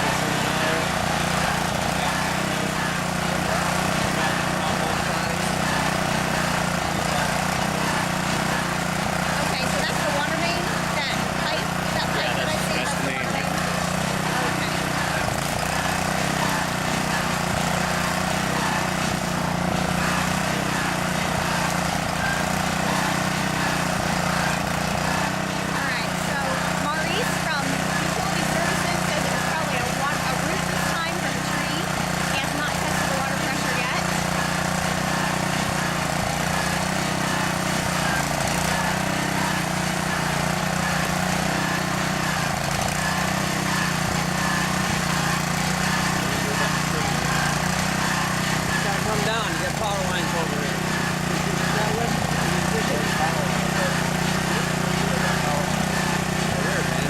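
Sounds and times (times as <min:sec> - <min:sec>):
digging equipment engine running: 0:00.0 - 0:57.0.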